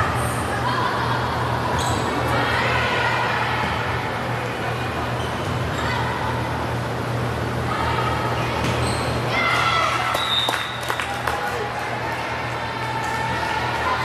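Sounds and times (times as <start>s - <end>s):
murmur of spectators: 0.0s - 14.0s
steady low hum: 0.0s - 14.0s.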